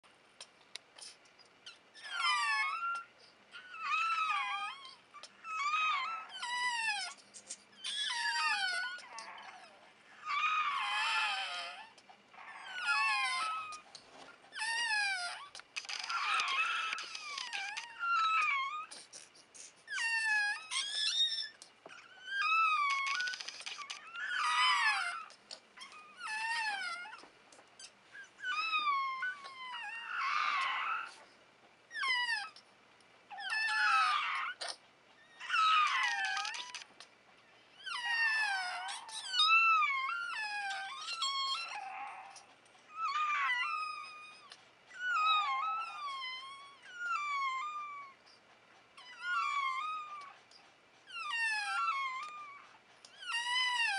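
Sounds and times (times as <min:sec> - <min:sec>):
puppies crying: 0:01.0 - 0:07.2, 0:07.8 - 0:31.3, 0:31.9 - 0:32.7, 0:33.3 - 0:53.9.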